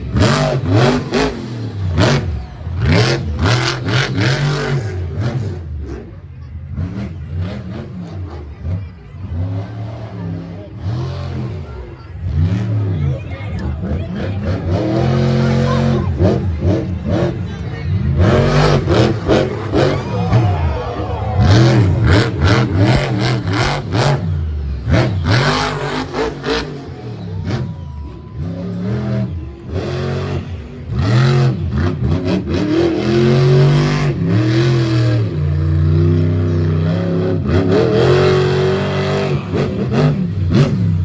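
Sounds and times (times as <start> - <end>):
monster truck engine revving: 0.0 - 41.0.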